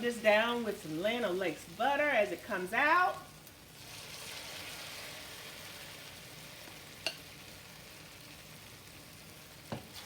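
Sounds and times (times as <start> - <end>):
batter sizzling in hot oil: 0.0 - 10.0.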